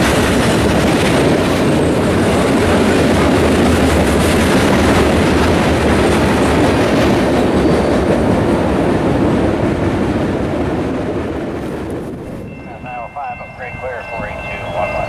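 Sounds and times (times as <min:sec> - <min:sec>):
freight train wheels rolling: 0:00.0 - 0:12.8.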